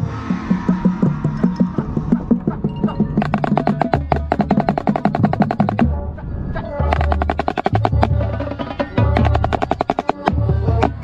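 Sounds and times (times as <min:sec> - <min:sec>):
drumline: 0:00.0 - 0:06.1, 0:06.8 - 0:11.0
marching snare drum runs: 0:00.7 - 0:05.9, 0:06.9 - 0:11.0.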